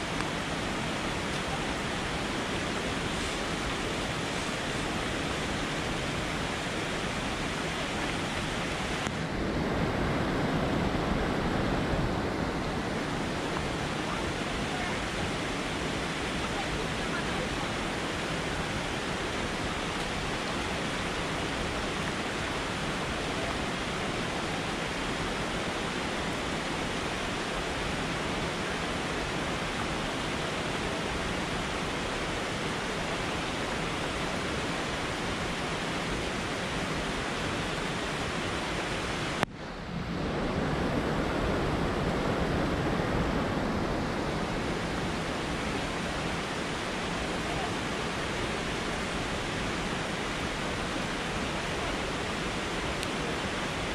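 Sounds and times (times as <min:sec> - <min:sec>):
rushing river: 0:00.0 - 0:53.9.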